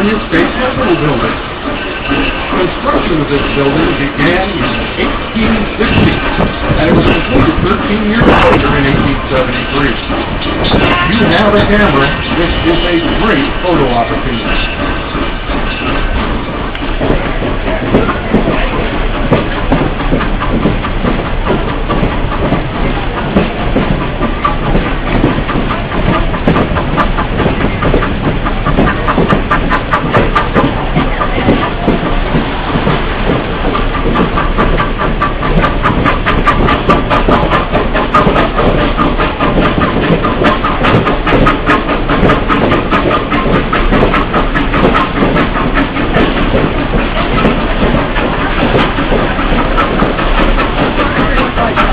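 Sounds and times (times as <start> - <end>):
rapid clicking of rails: 0.0 - 51.9
train wheels rumbling on rails: 0.0 - 51.9.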